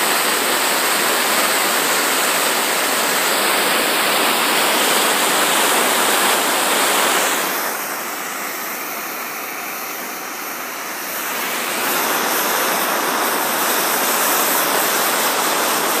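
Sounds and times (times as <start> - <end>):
torch flame hissing: 0.0 - 16.0.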